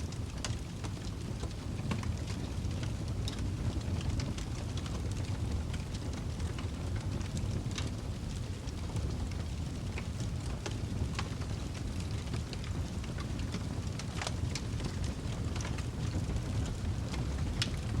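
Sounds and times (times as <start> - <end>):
wood fire crackling in a fireplace: 0.0 - 18.0.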